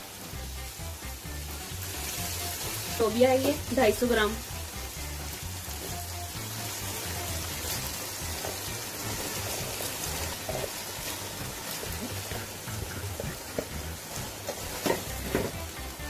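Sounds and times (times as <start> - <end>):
spices sizzling in a pan: 0.0 - 16.0.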